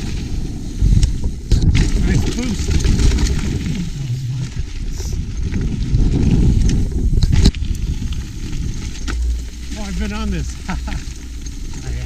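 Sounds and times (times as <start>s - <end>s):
bike rattling: 0.0s - 12.0s
wind buffeting microphone: 0.0s - 12.0s.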